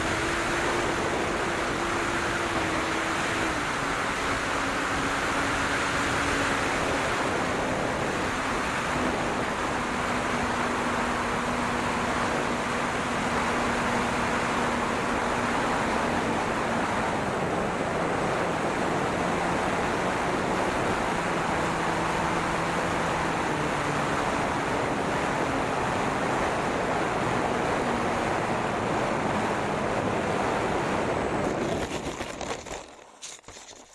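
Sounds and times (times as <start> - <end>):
wind rushing over microphone: 0.0 - 32.9.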